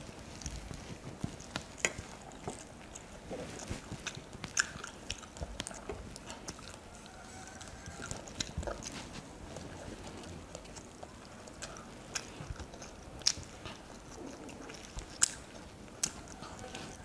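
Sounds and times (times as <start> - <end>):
chewing and wet mouth smacks: 0.3 - 17.0.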